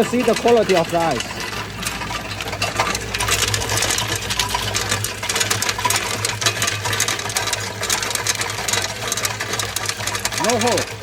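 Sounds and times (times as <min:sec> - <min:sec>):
ice machine hum: 0:00.0 - 0:11.0
ice tubes clattering: 0:00.0 - 0:11.0.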